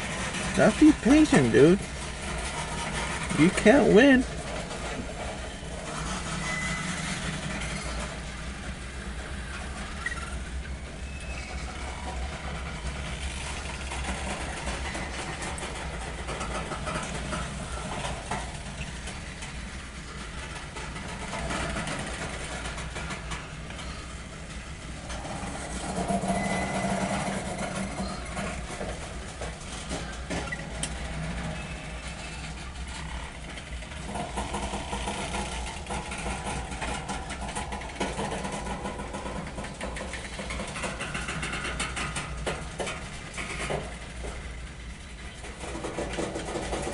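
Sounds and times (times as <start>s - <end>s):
rail clicks: 0.0s - 46.9s
train wheels rumbling on rail: 0.0s - 46.9s.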